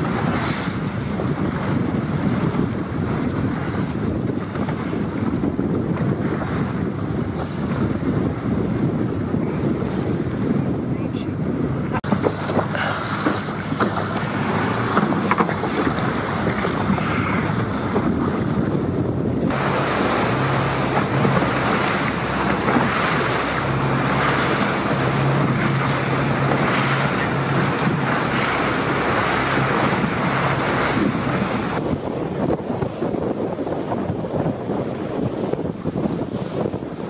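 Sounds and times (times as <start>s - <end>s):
motorboat engine hum: 0.0s - 37.0s
water splashing against hull: 0.0s - 37.0s
wind buffeting microphone: 0.0s - 37.0s.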